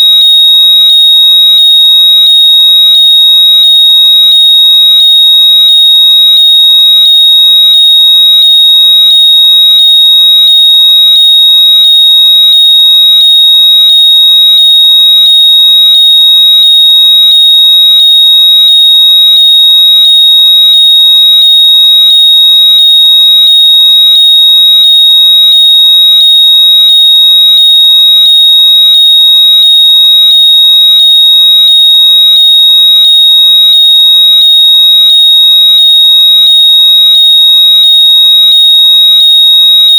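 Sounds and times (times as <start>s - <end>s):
high-pitched electronic tone: 0.0s - 39.9s.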